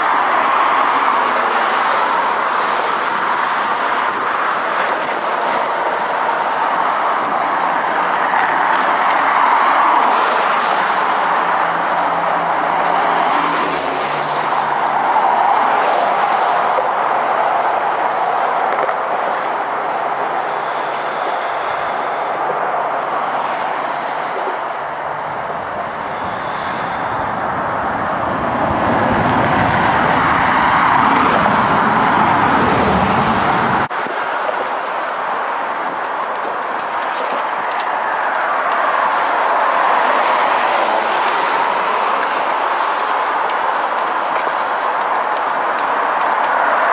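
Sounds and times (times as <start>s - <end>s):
freeway traffic rushing: 0.0s - 46.9s.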